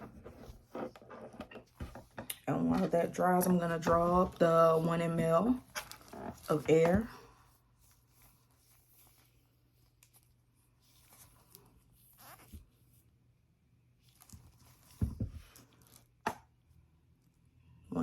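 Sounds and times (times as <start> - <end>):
gloves rustling and scraping: 0.0 - 13.3, 13.9 - 16.2.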